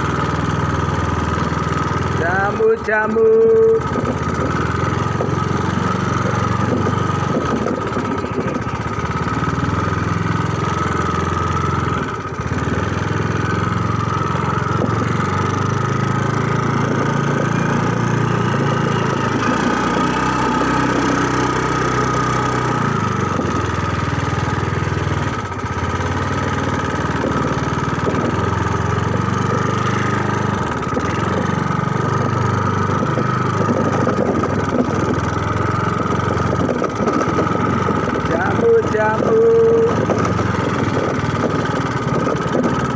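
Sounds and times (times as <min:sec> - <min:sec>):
small motorcycle engine running: 0:00.0 - 0:42.9.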